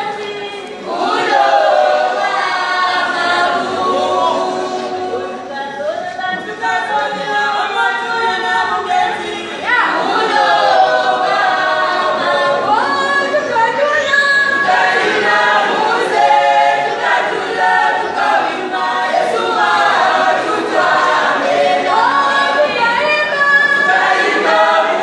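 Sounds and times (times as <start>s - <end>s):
choir singing a cappella: 0.0s - 5.9s, 7.1s - 25.0s.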